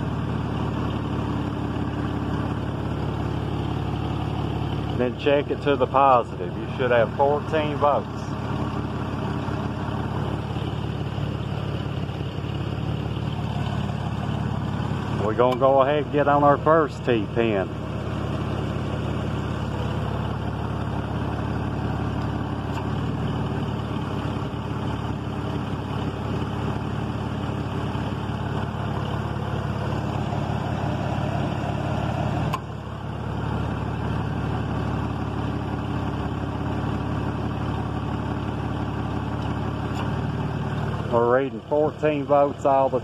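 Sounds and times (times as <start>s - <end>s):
van engine idling: 0.0s - 43.0s.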